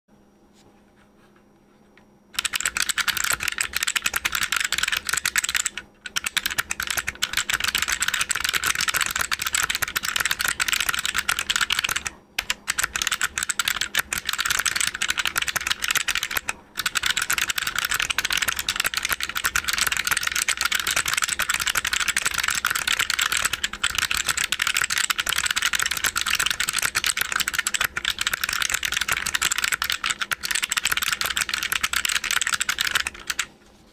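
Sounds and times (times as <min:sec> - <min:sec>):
fast typing on clicky keyboard: 0:02.4 - 0:33.5.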